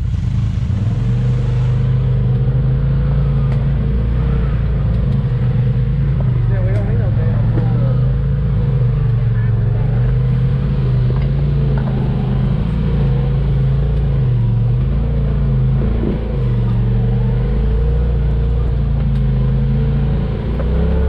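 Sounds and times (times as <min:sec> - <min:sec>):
off-road vehicle engine: 0:00.0 - 0:21.0.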